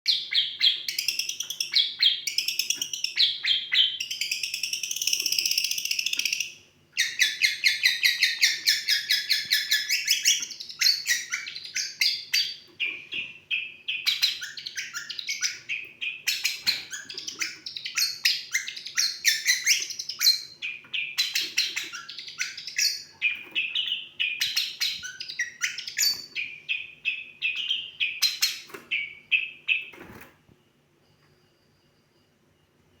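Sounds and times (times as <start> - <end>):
bird chattering and trilling song: 0.1 - 30.1
faint low hum: 0.1 - 33.0.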